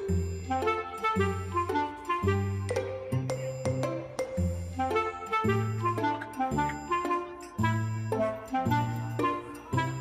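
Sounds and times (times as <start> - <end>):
wind instrument melody: 0.0 - 10.0.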